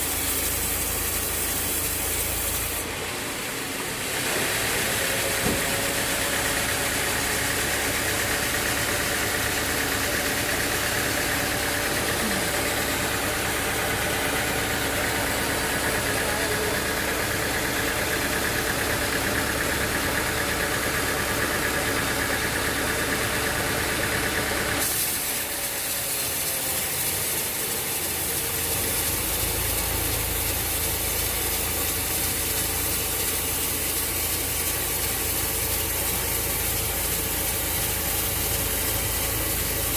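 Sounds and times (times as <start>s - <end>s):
continuous mechanical hum: 0.0s - 39.9s
engine running: 0.0s - 39.9s
sawmill machinery running: 0.0s - 39.9s.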